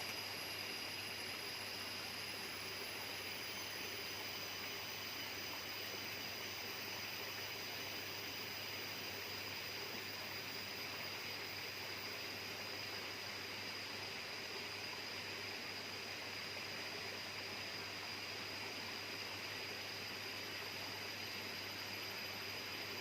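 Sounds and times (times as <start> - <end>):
hiss like running water: 0.0 - 23.0.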